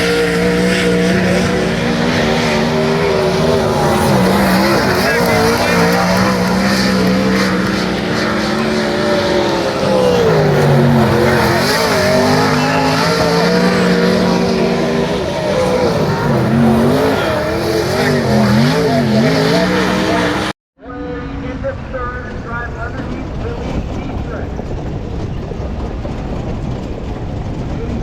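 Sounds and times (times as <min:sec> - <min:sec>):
race car engines revving: 0:00.0 - 0:28.0.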